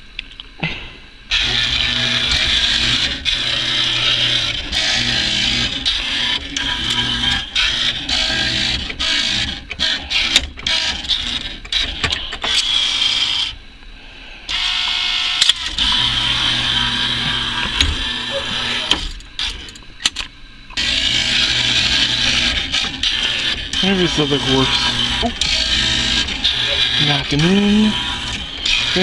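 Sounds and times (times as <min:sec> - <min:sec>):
claw machine motors whirring: 0:01.3 - 0:13.6, 0:14.5 - 0:29.0.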